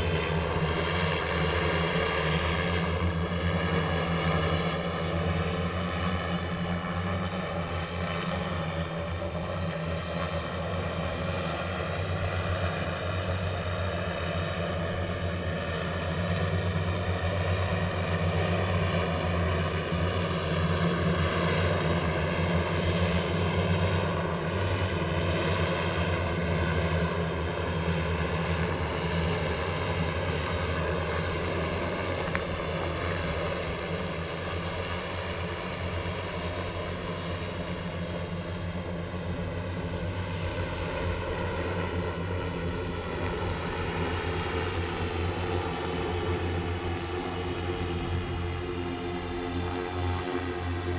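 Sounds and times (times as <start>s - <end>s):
drone motors and propellers humming: 0.0s - 50.9s.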